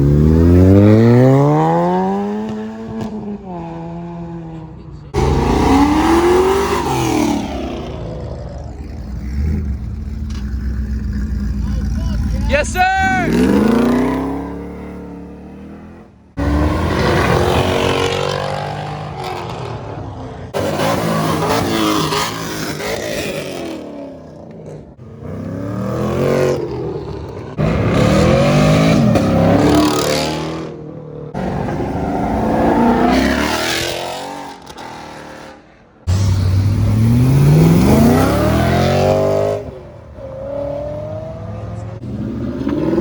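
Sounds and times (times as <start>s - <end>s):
cars accelerating hard: 0.0s - 43.0s.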